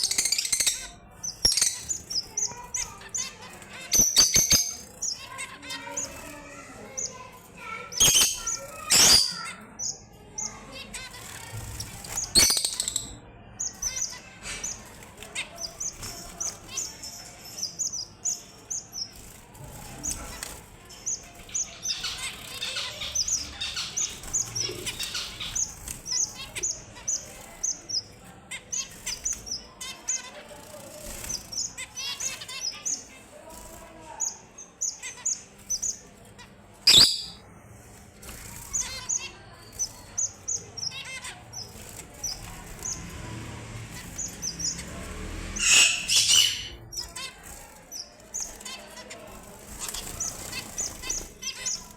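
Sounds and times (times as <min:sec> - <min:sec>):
finches chirping: 0:00.0 - 0:33.2, 0:34.1 - 0:37.4, 0:38.4 - 0:43.2, 0:44.0 - 0:51.9.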